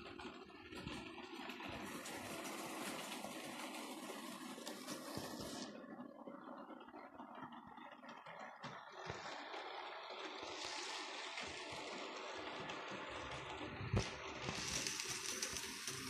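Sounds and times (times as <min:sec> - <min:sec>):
model trains whirring on track: 0:00.0 - 0:16.0.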